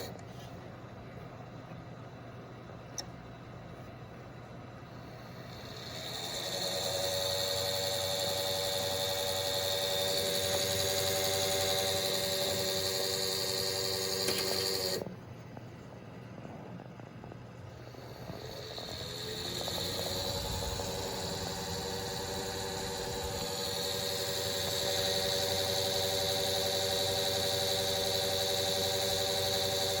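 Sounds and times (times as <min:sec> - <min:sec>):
computer fan hum and whine: 0:00.0 - 0:30.0.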